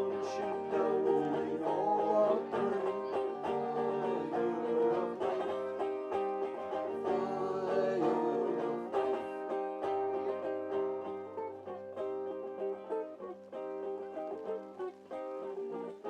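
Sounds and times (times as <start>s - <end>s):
acoustic plucked-string music: 0.0s - 16.0s.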